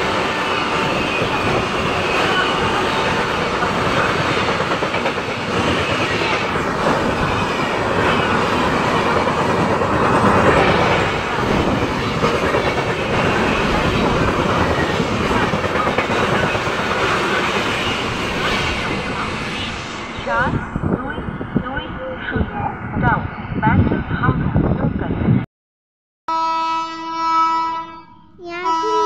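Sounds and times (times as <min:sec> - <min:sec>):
train wheels rushing on rails: 0:00.0 - 0:24.1.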